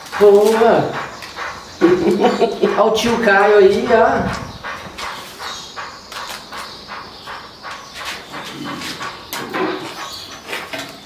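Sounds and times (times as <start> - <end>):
dog panting rapidly: 0.0 - 11.0.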